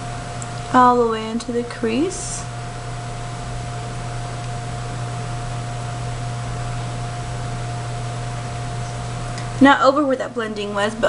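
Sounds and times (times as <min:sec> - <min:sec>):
low electrical hum: 0:00.0 - 0:11.0
thin constant whine: 0:00.0 - 0:11.0.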